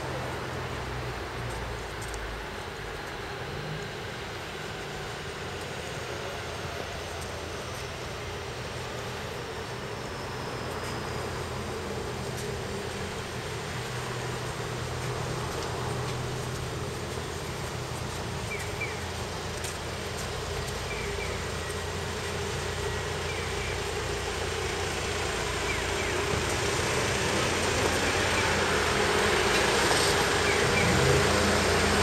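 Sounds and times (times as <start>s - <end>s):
vehicle noise: 0.0s - 32.0s.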